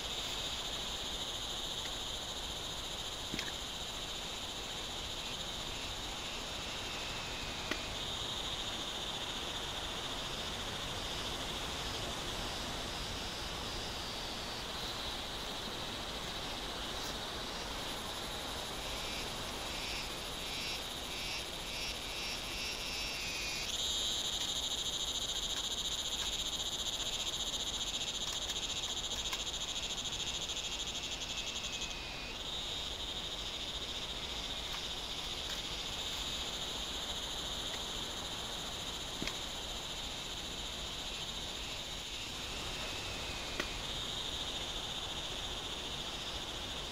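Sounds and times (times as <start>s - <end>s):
frogs and insects trilling: 0.0s - 46.9s.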